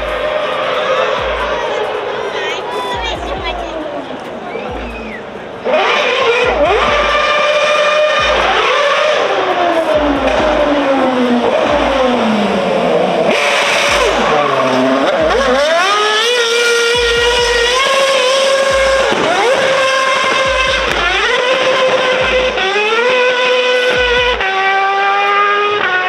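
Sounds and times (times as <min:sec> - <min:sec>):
racing car engine revving: 0:00.0 - 0:26.0.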